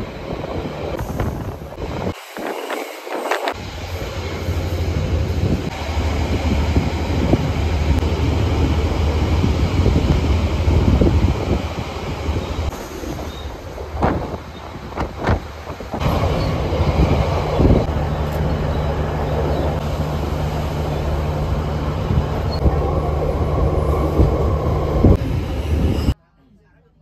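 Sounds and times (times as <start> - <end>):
wind buffeting microphone: 0.0 - 20.0, 20.8 - 26.2
train wheels rumbling: 0.0 - 26.2.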